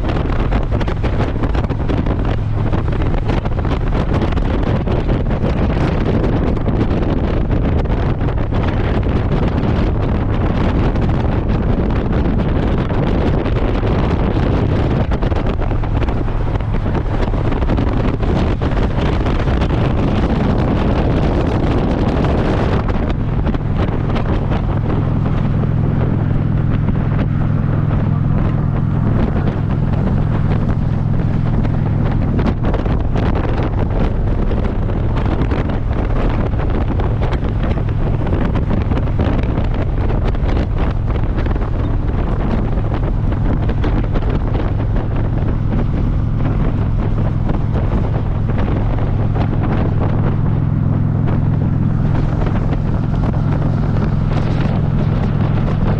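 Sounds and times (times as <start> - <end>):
motorcycle engine low drone: 0.0 - 55.9
wind buffeting microphone: 0.0 - 55.9.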